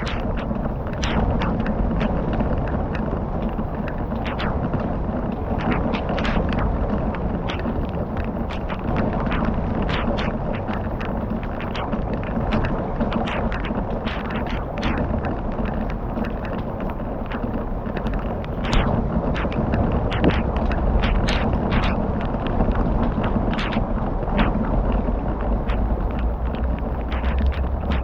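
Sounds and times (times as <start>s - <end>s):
low rush of fire: 0.0s - 28.0s
wood fire crackling: 0.0s - 28.0s.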